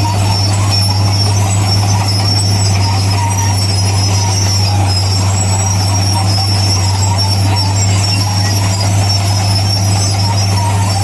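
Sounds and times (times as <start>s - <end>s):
heavy diesel machinery running: 0.0s - 11.0s.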